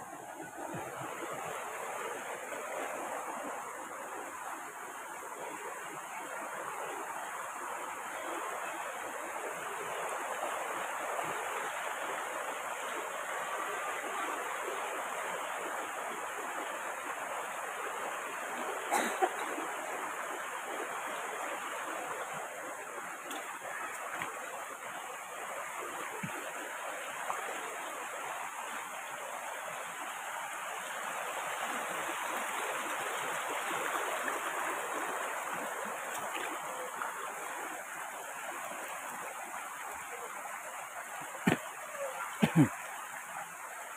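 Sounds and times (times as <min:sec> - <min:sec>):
stream rushing over stones: 0:00.0 - 0:43.9.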